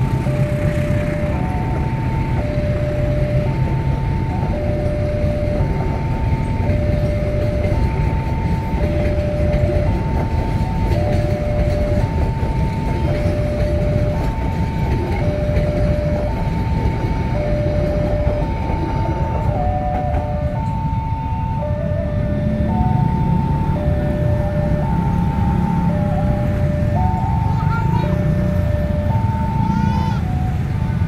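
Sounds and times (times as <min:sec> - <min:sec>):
level crossing two-tone alarm: 0:00.0 - 0:31.0
train rumbling on rails: 0:00.0 - 0:31.0.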